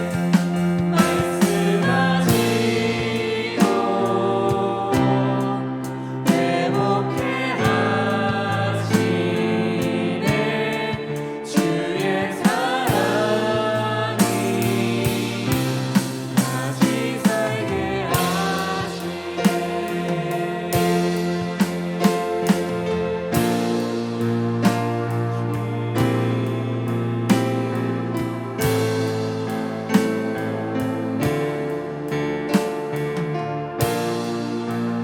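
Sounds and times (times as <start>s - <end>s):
people singing: 0.0s - 33.0s
worship music: 0.0s - 35.0s.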